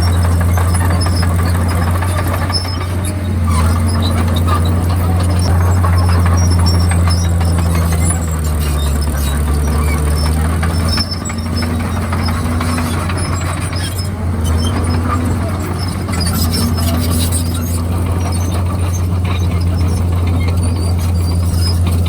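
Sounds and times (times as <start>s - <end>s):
bulldozer diesel engine droning: 0.0s - 22.0s
high machine squeaks: 0.0s - 22.0s.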